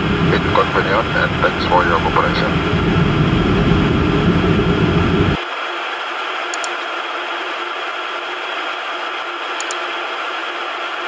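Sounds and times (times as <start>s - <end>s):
faint steady whine: 0.0s - 11.0s
jet engines idling: 0.0s - 11.0s.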